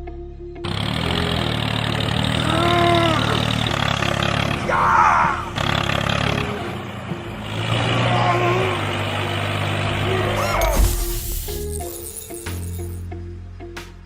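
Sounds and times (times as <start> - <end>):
small engine rumbling: 0.0 - 14.0.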